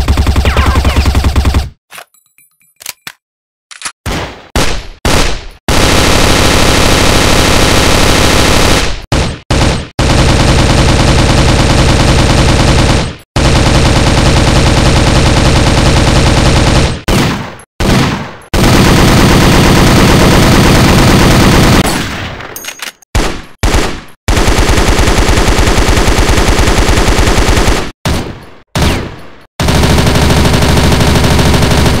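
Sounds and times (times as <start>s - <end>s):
machine-gun fire: 0.0s - 1.8s, 4.1s - 22.5s, 23.2s - 32.0s.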